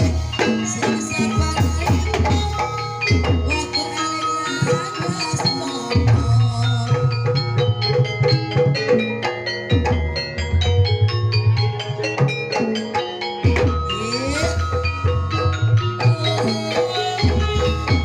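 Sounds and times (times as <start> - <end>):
drum beats: 0.0 - 18.0
metal mallet instruments: 0.0 - 18.0.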